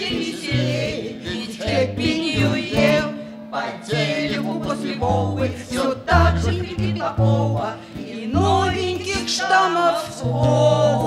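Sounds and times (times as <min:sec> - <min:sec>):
acoustic guitars: 0:00.0 - 0:11.0
voices singing together: 0:00.0 - 0:11.0.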